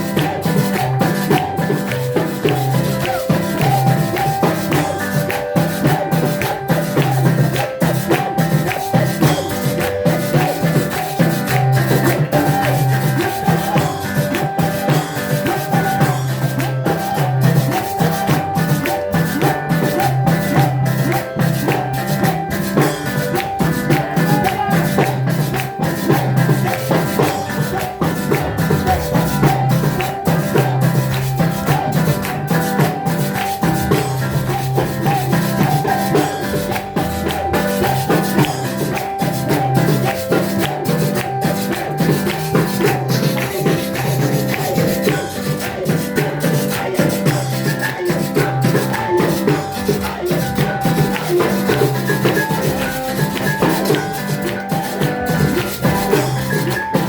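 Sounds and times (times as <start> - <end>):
drums keeping a beat: 0.0 - 57.0
shaker: 0.0 - 57.0.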